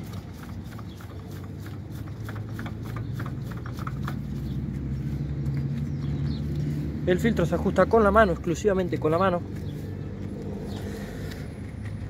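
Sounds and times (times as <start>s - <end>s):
oil filter clicking and rubbing: 0.0s - 12.0s.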